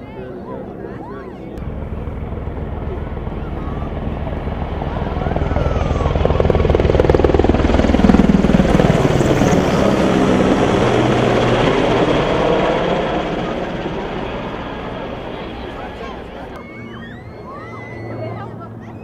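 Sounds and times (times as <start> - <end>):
aircraft passing overhead: 0.0 - 19.0.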